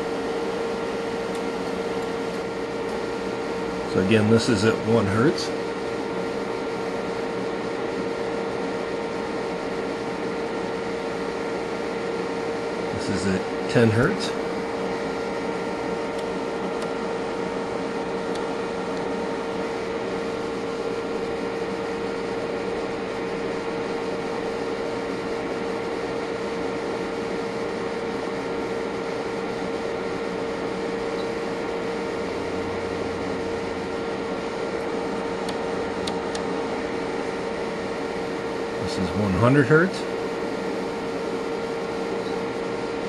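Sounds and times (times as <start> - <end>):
cooling fans whirring: 0.0 - 43.0.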